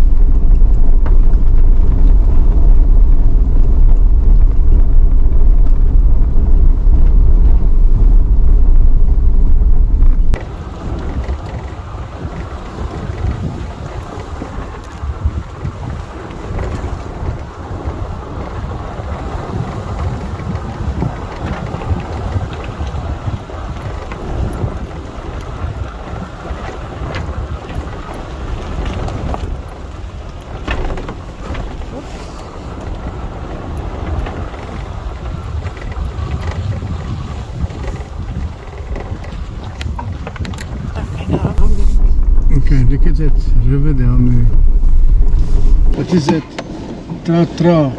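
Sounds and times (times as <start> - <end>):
vehicle engine and tyre rumble: 0.0 - 47.9
wind buffeting microphone: 0.0 - 47.9.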